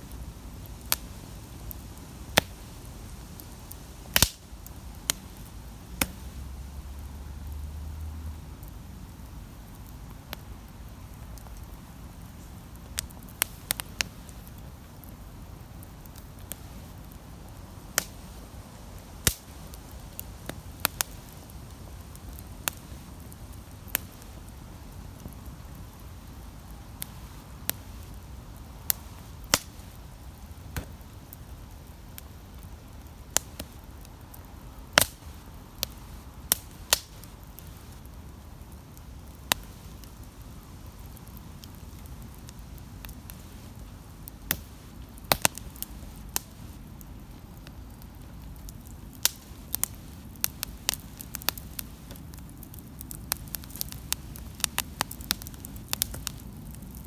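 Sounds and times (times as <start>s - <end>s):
low fire rumble: 0.0s - 57.0s
campfire sharp pops: 0.1s - 6.4s, 8.6s - 57.0s.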